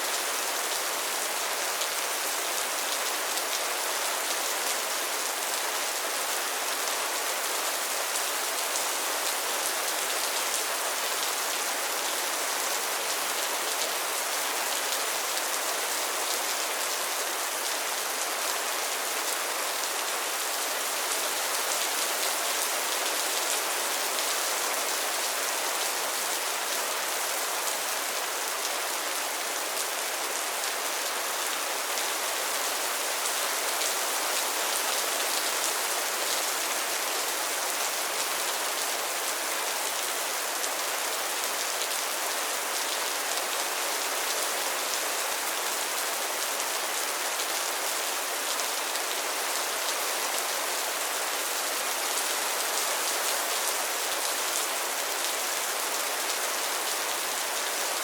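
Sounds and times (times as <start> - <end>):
rain falling on a pond: 0.0 - 58.0.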